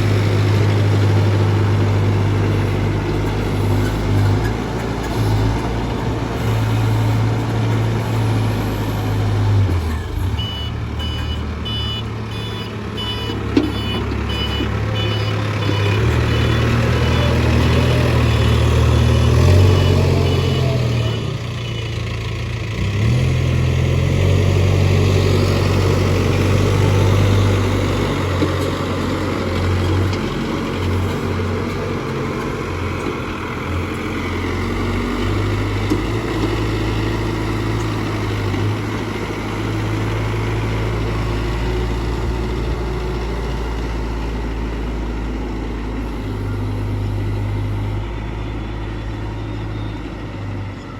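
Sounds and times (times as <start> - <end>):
backhoe diesel engine running: 0.0 - 50.9.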